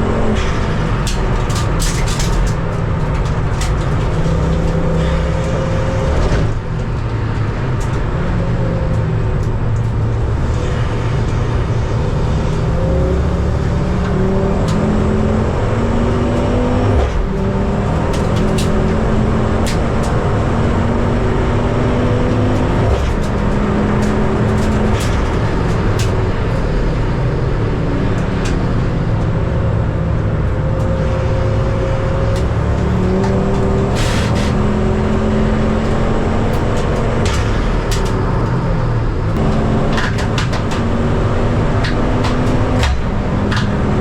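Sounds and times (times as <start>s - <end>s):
race car engine at full throttle: 0.0s - 44.0s.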